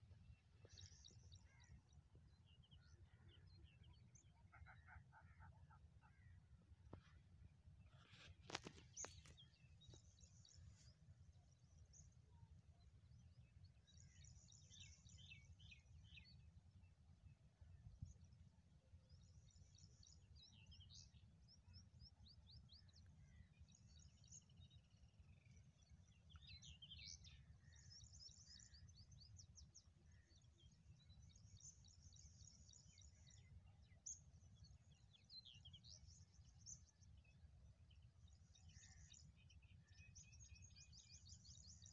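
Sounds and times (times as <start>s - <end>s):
small birds chirping: 0.0s - 7.2s, 7.8s - 16.5s, 19.2s - 41.9s.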